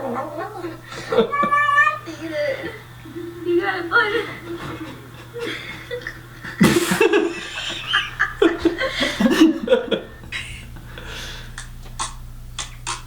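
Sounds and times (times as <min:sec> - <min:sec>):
men laughing: 0:00.6 - 0:12.2.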